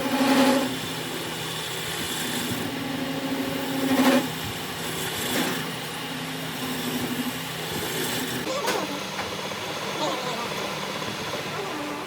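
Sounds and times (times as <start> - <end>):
workshop machine humming: 0.0 - 12.0.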